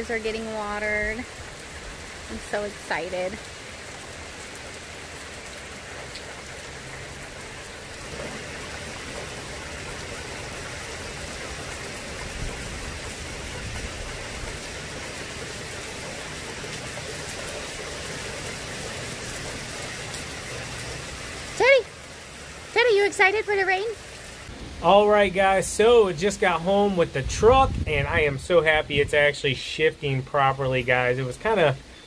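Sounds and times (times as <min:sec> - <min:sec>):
rain drop ticks: 0:00.0 - 0:32.0
steady rain on concrete: 0:00.0 - 0:32.0.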